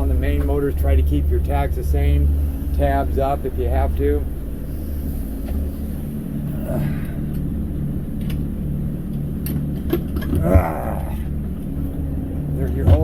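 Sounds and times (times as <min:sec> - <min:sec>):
boat engines humming: 0:00.0 - 0:13.0.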